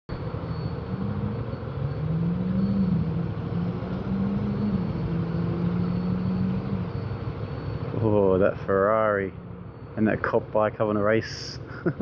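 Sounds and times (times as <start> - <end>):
road noise: 0.1 - 12.0.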